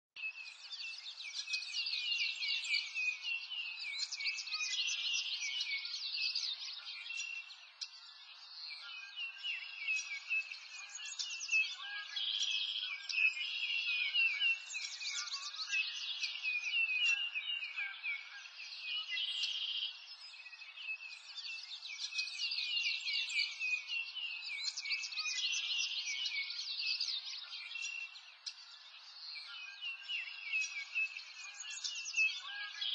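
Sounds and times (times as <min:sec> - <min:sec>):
small birds chirping: 0:00.2 - 0:32.9.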